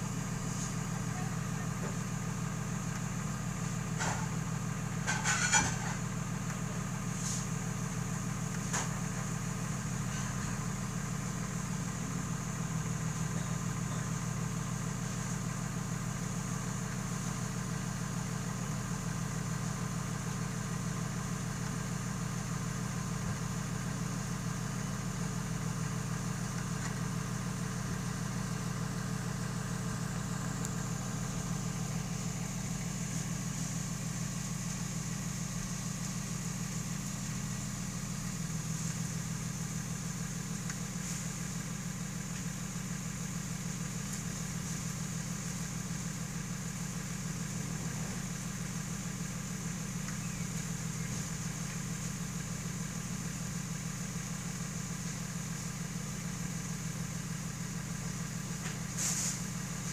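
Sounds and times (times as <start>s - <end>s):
bus engine idling: 0.0s - 59.9s.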